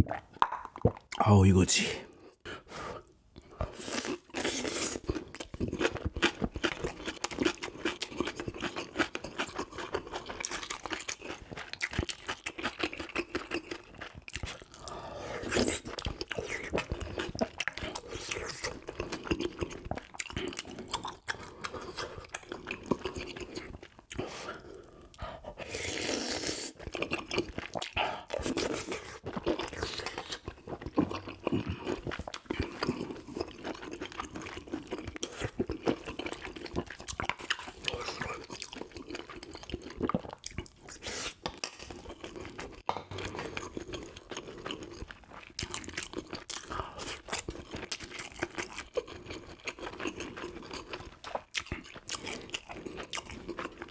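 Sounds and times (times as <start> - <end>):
chewing and crunching fish: 3.5 - 25.5, 26.7 - 53.9.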